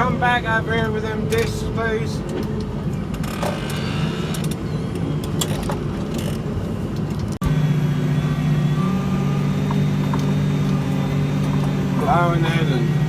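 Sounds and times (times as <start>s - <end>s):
steady engine hum: 0.0s - 13.0s
tractor engine running: 0.0s - 13.0s.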